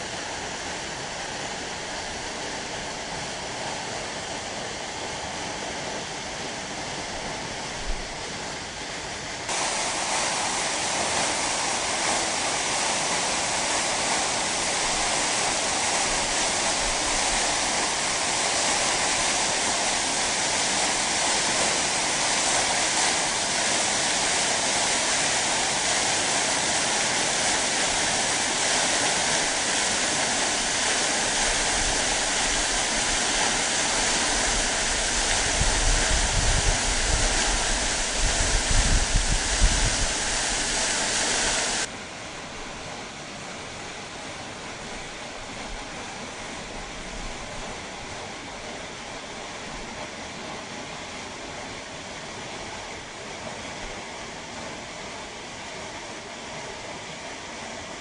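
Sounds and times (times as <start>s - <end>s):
waterfall roaring: 9.5s - 58.0s.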